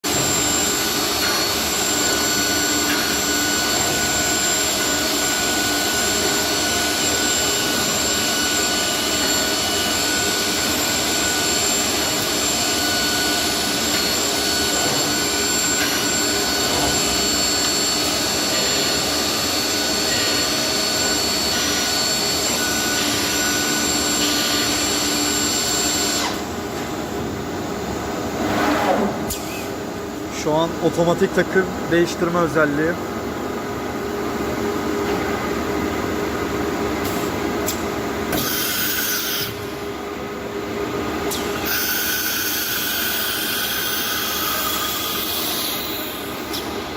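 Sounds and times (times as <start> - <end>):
drilling machine whine: 0.1 - 28.4, 29.2 - 46.9.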